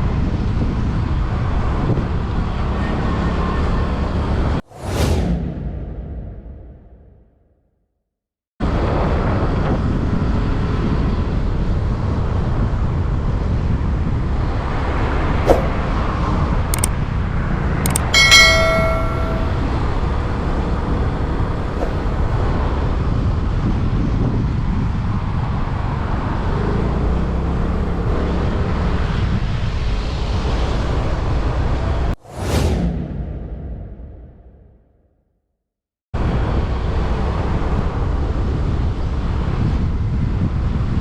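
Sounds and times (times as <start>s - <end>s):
wind and road noise: 0.0s - 6.7s, 8.6s - 34.0s, 36.2s - 41.0s.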